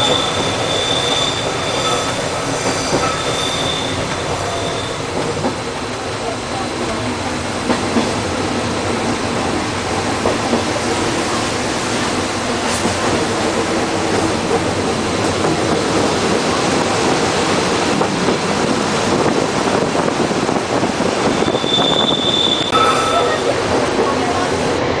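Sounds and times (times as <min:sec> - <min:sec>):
railcar wheels and machinery running: 0:00.0 - 0:25.0.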